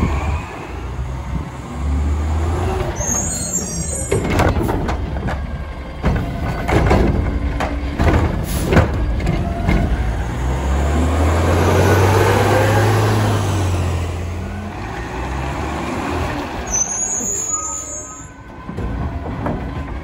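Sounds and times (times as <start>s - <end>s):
truck engine pulling away: 0.0s - 20.0s.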